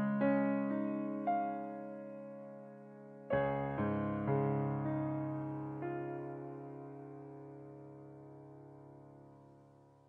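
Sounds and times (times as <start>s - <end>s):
piano music: 0.0s - 9.7s.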